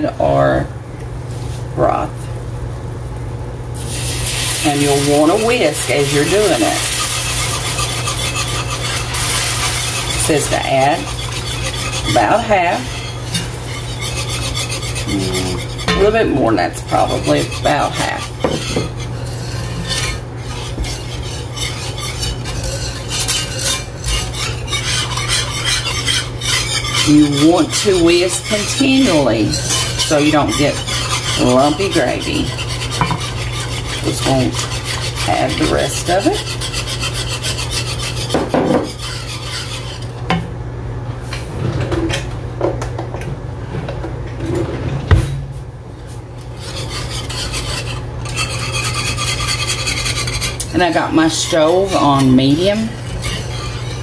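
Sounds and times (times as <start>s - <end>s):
steady low hum: 0.0s - 54.0s
whisk scraping a skillet: 3.8s - 40.4s, 46.0s - 54.0s.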